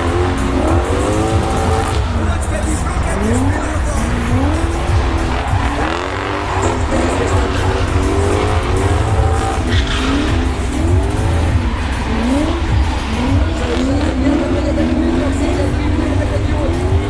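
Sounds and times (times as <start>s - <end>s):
car engines revving: 0.0s - 17.0s
deep exhaust rumble: 0.0s - 17.0s
tyre squeal: 0.0s - 17.0s.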